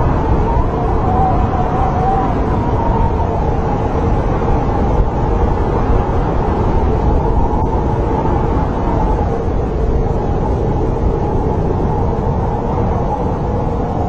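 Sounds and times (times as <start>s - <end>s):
snowstorm wind howling: 0.0s - 14.0s.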